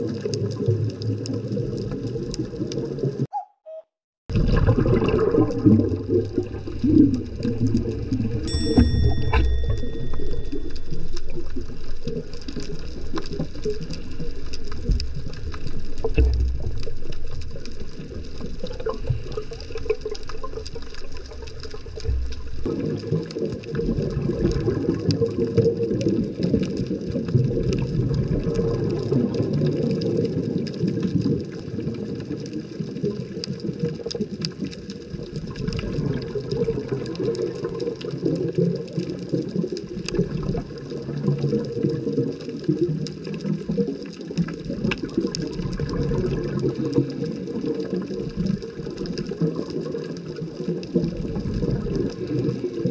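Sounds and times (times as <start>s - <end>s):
muffled underwater rumble: 4.3s - 30.7s, 31.4s - 52.9s
faint crackling clicks: 4.4s - 52.9s.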